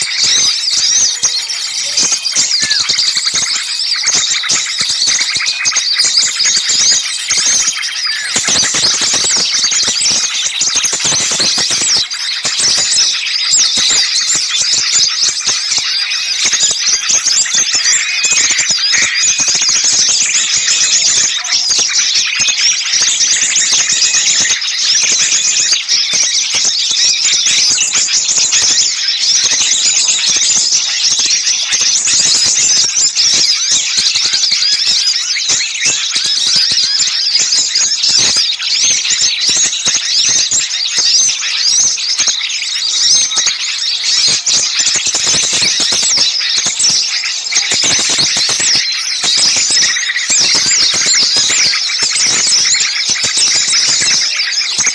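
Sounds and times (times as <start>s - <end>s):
songbirds chirping chorus: 0.0s - 54.9s.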